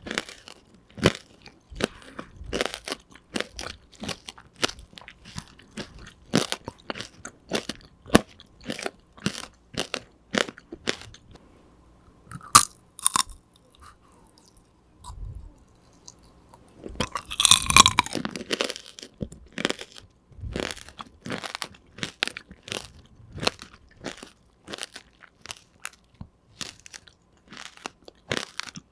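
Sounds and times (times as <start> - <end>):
chewing and crunching candy: 0.0 - 11.4, 12.2 - 28.9.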